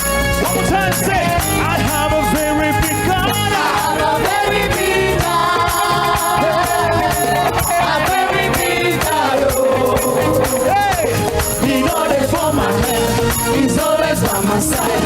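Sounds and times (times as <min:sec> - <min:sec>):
praise band playing worship music: 0:00.0 - 0:15.0
steady percussion beat: 0:00.0 - 0:15.0
voices singing: 0:00.5 - 0:15.0.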